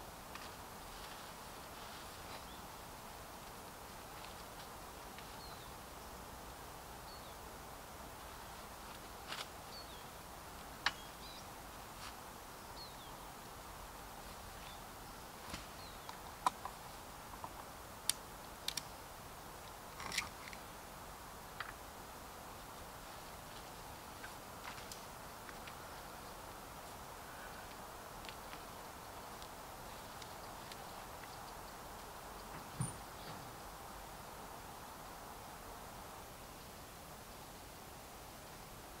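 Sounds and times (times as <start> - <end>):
faint outdoor hiss: 0.0 - 39.0.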